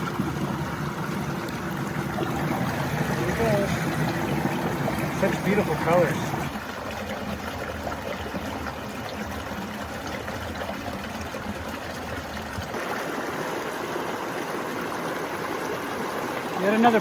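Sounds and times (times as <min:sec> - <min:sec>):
creek trickling over rocks: 0:00.0 - 0:17.0.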